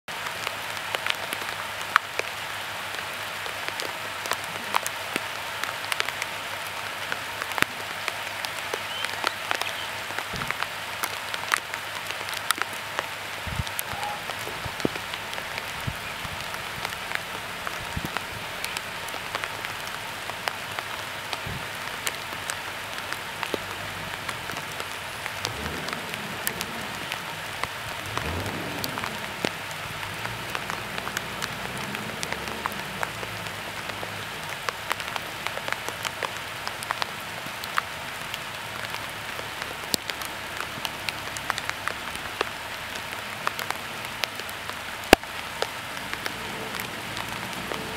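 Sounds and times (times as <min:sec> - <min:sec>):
raindrops tapping: 0:00.1 - 0:47.9
steady rain hiss: 0:00.1 - 0:47.9.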